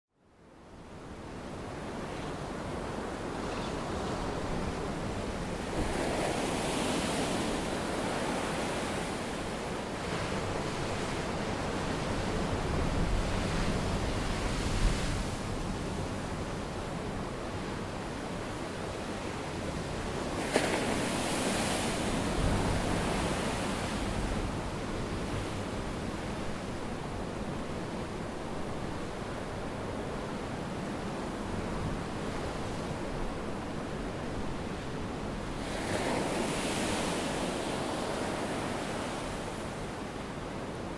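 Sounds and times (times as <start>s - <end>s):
wind: 0.1s - 40.9s.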